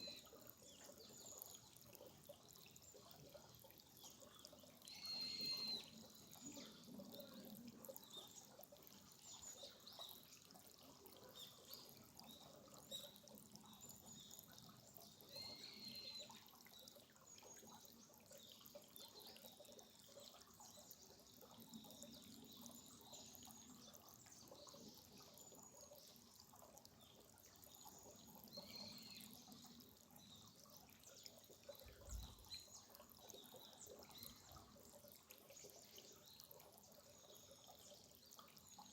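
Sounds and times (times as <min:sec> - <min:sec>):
stream trickling and dripping: 0:00.0 - 0:38.9.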